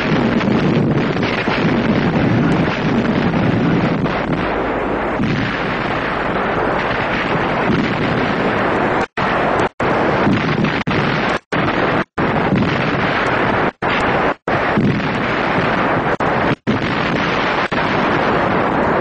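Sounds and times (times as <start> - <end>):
explosions and artillery fire: 0.0 - 19.0.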